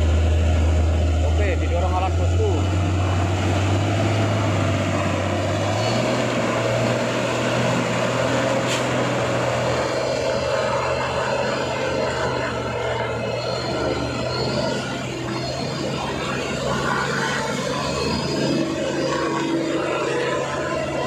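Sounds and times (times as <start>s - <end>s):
heavy diesel engines labouring: 0.0s - 21.0s.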